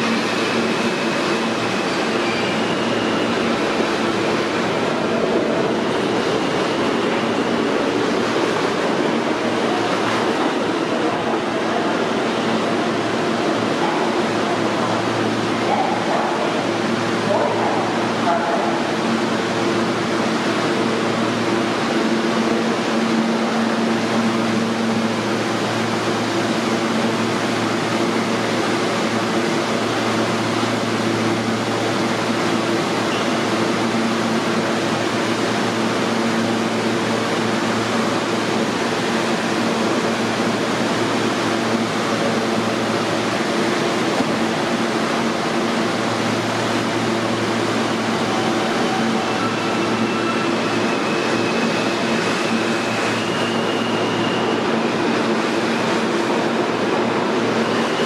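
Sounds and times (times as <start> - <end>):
train air-conditioning rush and hum: 3.6 - 58.0.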